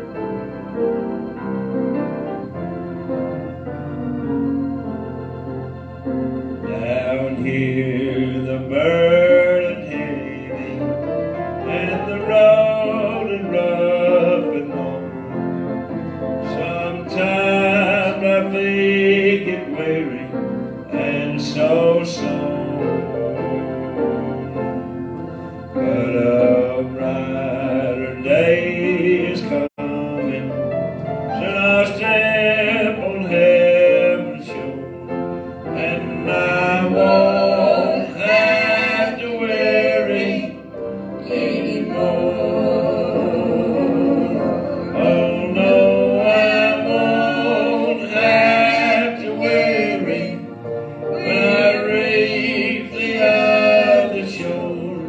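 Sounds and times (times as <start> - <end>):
gospel singing: 0.0 - 55.0
piano accompaniment: 0.0 - 55.0.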